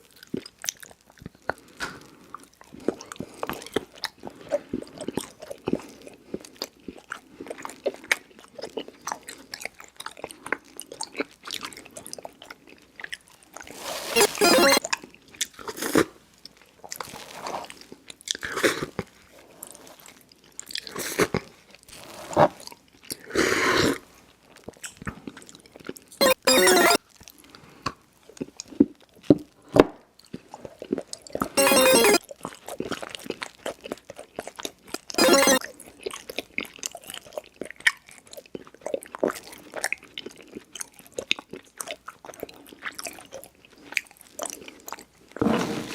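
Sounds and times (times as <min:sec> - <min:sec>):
crunching and chewing: 0:00.0 - 0:14.1, 0:14.9 - 0:23.3, 0:24.2 - 0:26.1, 0:30.2 - 0:31.6, 0:32.3 - 0:35.2, 0:35.8 - 0:45.4.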